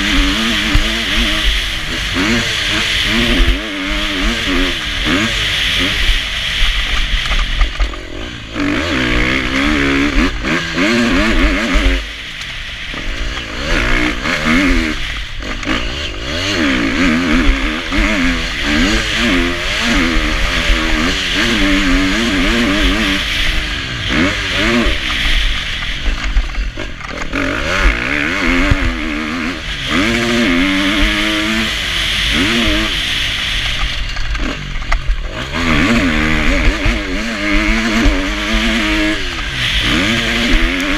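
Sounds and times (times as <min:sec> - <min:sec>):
motocross bike engine revving: 0:00.0 - 0:40.9
steady rushing hiss: 0:00.0 - 0:40.9.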